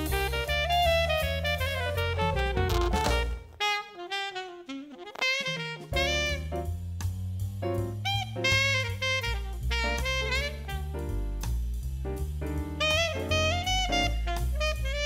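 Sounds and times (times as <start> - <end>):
jazz music with saxophone: 0.0 - 15.0.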